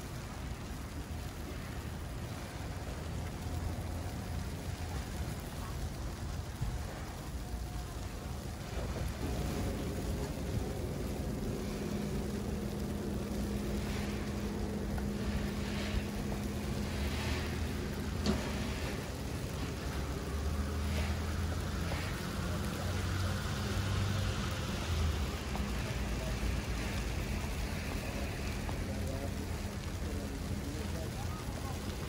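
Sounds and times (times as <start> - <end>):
vehicles passing: 0.0 - 32.0.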